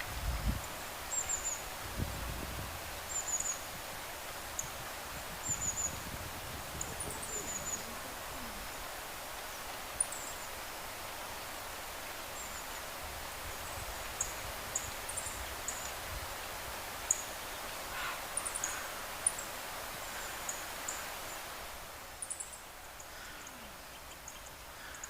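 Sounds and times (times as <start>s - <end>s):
steady hiss of wind or water: 0.0s - 25.0s.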